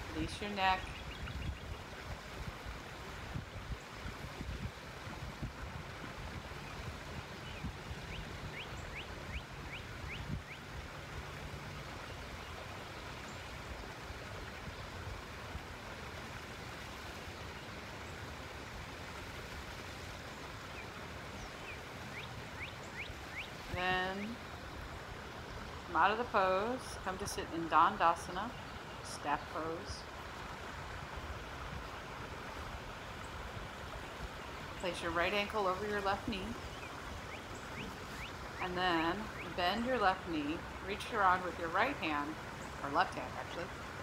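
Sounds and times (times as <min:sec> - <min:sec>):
river water rushing over rocks: 0:00.0 - 0:44.0.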